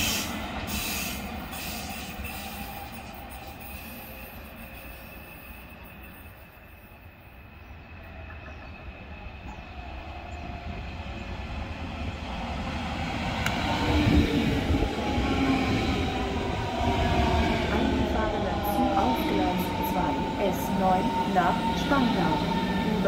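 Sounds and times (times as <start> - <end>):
electric train whine: 0.0 - 23.0
wheels rumbling on rail: 0.0 - 23.0.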